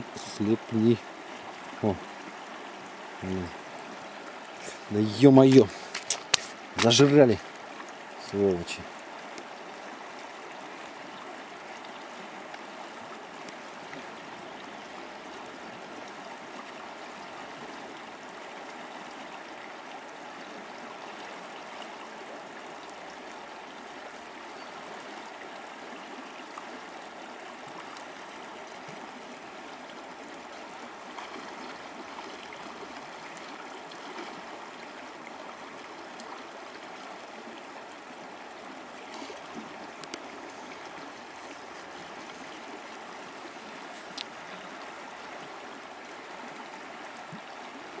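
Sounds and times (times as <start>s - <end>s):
river rushing over stones: 0.0s - 48.0s.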